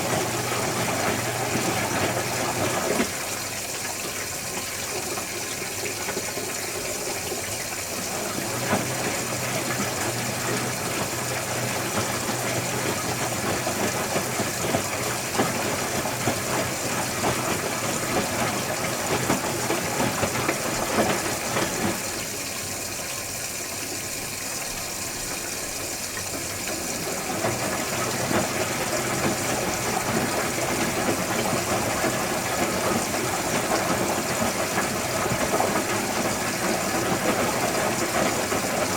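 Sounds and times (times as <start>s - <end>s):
wash load sloshing and tumbling: 0.0s - 38.9s
washing machine motor hum: 0.0s - 38.9s.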